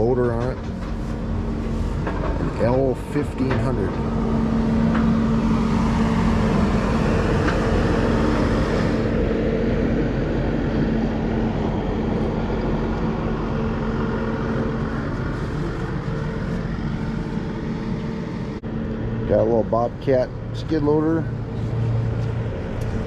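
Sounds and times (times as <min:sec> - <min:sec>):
low rumble: 0:00.0 - 0:23.0
steady motor hum: 0:00.0 - 0:23.0.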